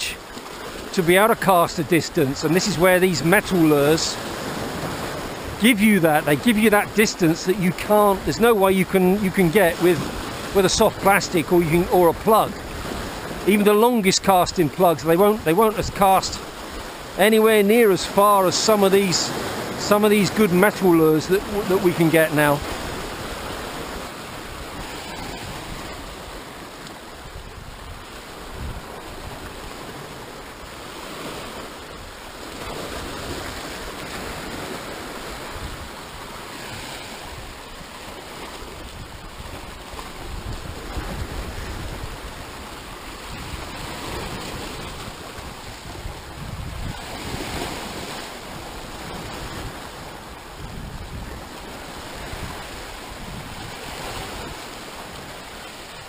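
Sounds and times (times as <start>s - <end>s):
surf washing over rocks: 0.0s - 56.0s.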